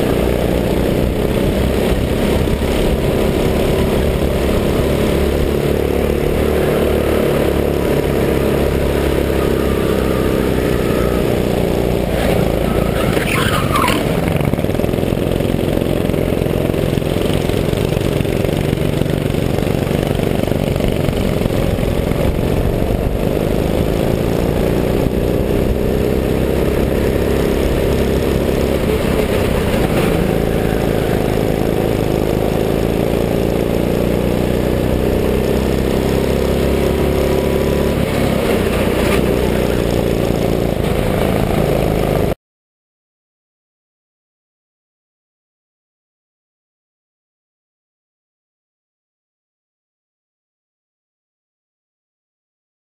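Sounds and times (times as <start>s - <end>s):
go-kart engine running: 0.0s - 42.4s.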